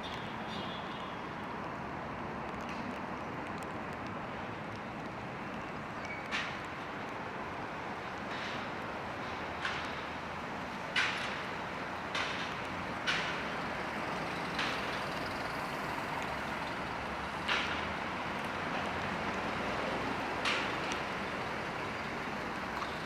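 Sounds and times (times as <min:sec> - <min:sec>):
rain on a street: 0:00.0 - 0:23.0.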